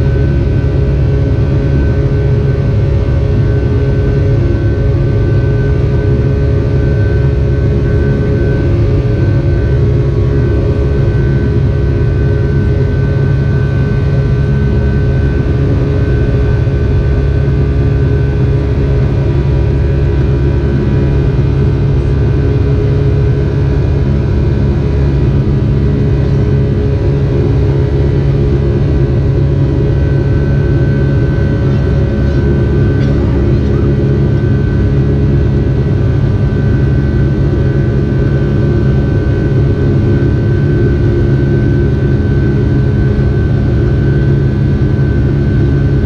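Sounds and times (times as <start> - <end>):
constant whining tones: 0.0 - 46.0
jet cabin rumble: 0.0 - 46.0.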